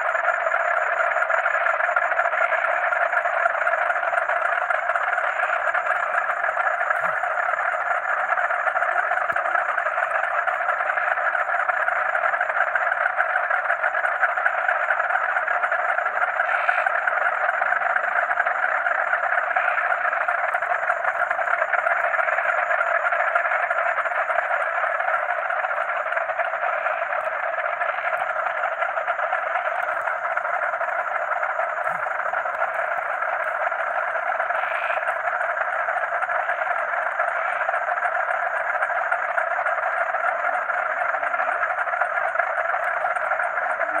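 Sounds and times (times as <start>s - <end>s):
frogs calling: 0.0s - 44.0s
high-pitched cricket trill: 0.0s - 44.0s.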